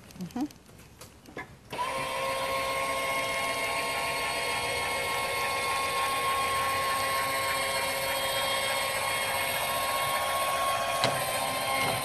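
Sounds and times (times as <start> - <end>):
electric actuator whining: 1.7 - 12.0.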